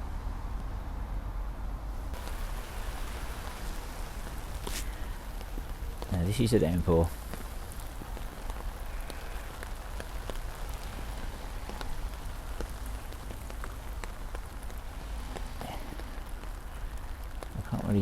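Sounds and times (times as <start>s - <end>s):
heavy rain: 0.0s - 18.0s
raindrops ticking: 2.0s - 18.0s.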